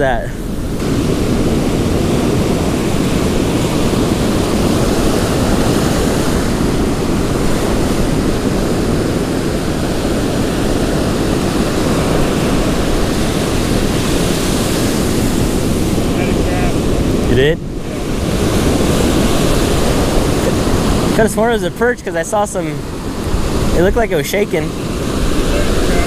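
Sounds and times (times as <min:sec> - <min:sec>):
surf breaking on beach: 0:00.0 - 0:26.0
wind rumbling on microphone: 0:00.0 - 0:26.0.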